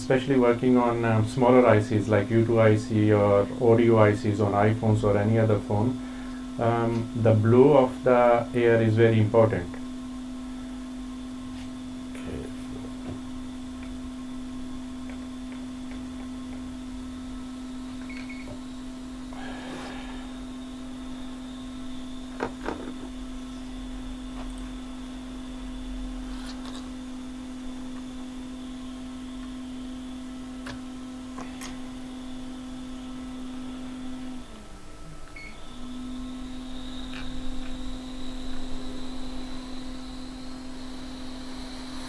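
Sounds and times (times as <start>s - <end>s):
hot air blower humming: 0.0s - 42.0s.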